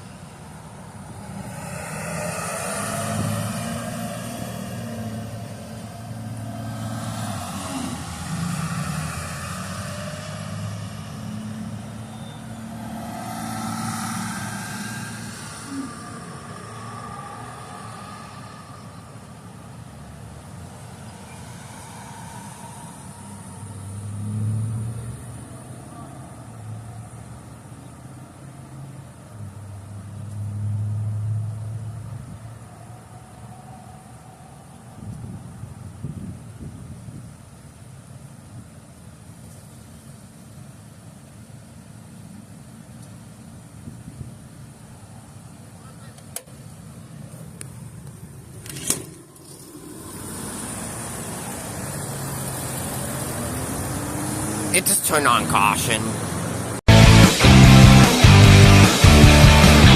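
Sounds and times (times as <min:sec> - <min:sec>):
cars passing: 0:00.0 - 0:38.2, 0:39.1 - 0:59.9.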